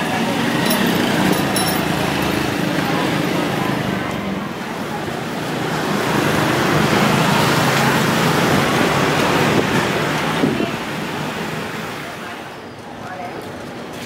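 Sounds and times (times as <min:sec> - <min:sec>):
passing cars and vans: 0:00.0 - 0:14.0.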